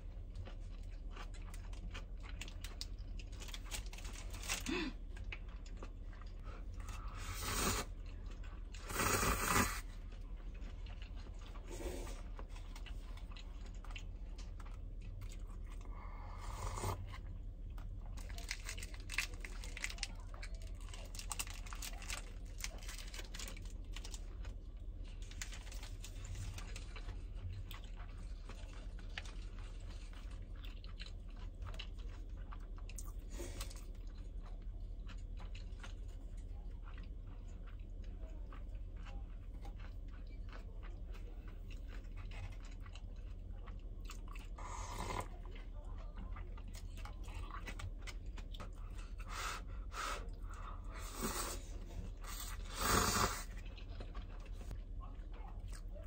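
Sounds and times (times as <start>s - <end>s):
person chewing and crunching food: 0.0s - 56.0s
steady low hum: 0.0s - 56.0s.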